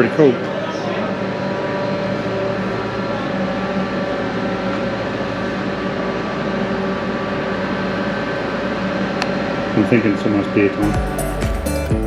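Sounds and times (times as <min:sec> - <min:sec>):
engine droning steadily: 0:00.0 - 0:11.9.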